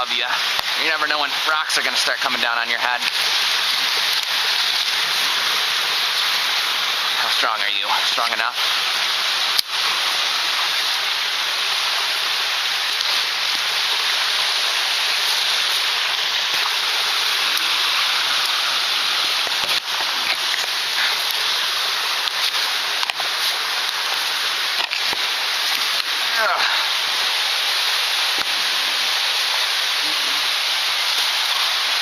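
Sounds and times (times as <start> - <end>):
water rushing down cascade: 0.0 - 32.0.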